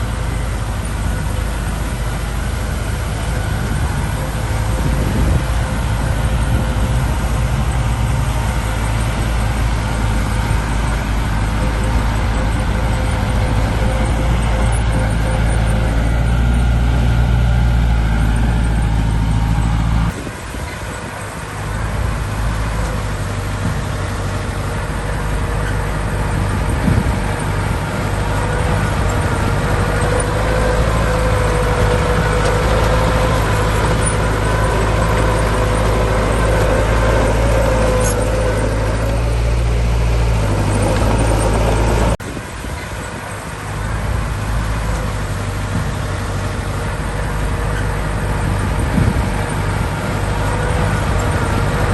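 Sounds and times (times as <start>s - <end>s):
heavy diesel machinery engine drone: 0.0s - 51.9s.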